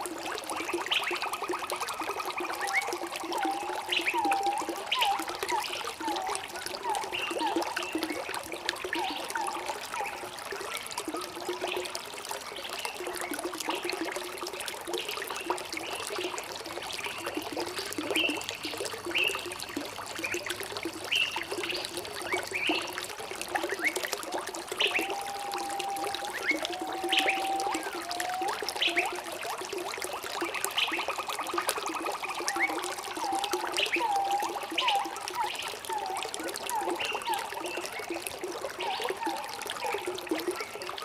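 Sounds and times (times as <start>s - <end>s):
water trickling over stones: 0.0s - 41.0s.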